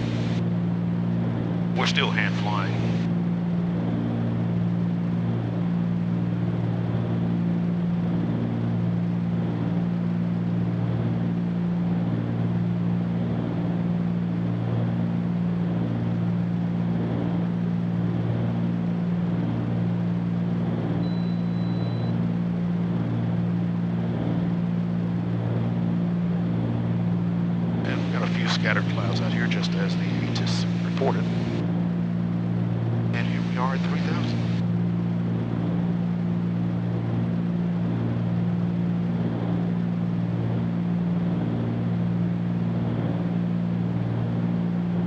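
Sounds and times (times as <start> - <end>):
aircraft cabin engine drone: 0.0 - 45.0.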